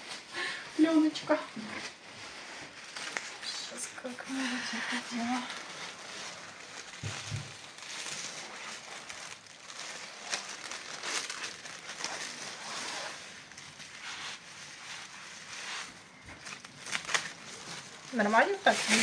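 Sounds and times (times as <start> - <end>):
plastic film crinkling: 0.0 - 19.0.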